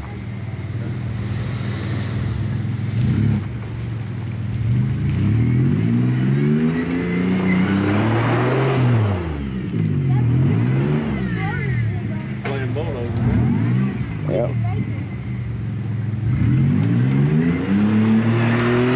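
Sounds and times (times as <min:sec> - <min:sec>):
engine revving under load: 0:00.0 - 0:18.9.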